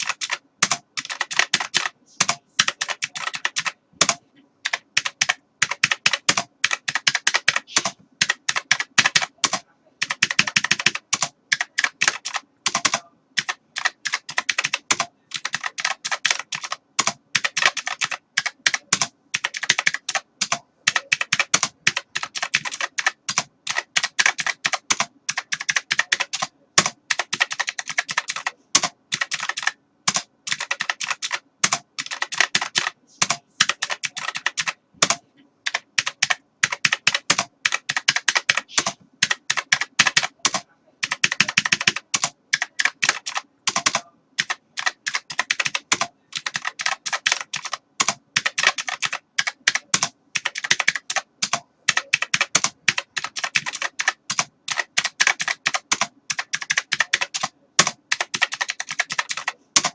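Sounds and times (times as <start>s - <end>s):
computer keyboard typing: 0.0s - 59.9s.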